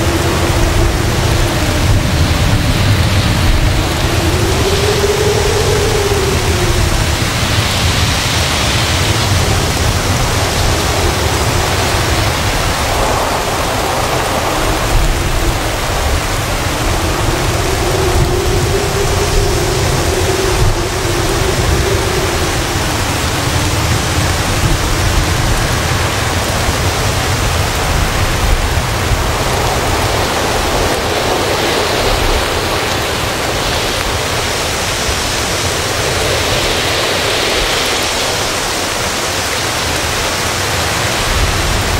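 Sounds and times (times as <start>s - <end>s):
gusting wind howling: 0.0s - 41.9s
heavy rain: 0.0s - 41.9s.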